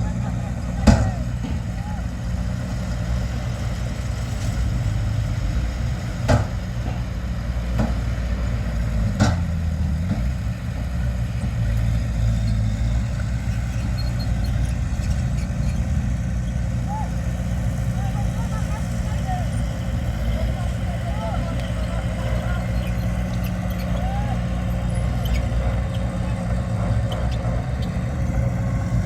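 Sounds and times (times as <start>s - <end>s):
diesel machinery engine running: 0.0s - 29.0s.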